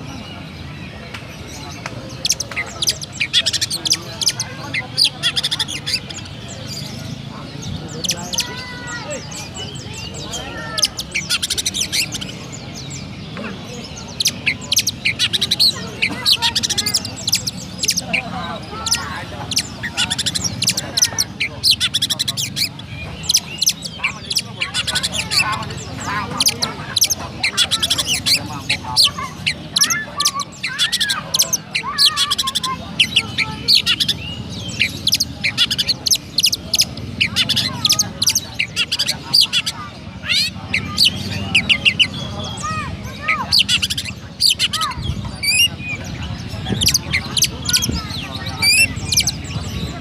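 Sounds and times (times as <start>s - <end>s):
bird singing high chirps: 0.0s - 50.0s.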